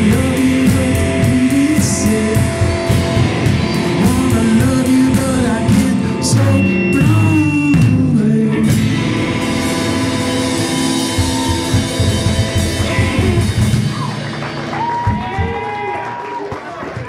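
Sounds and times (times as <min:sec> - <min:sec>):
drums and cymbals: 0:00.0 - 0:15.9
distorted electric guitars: 0:00.0 - 0:16.1.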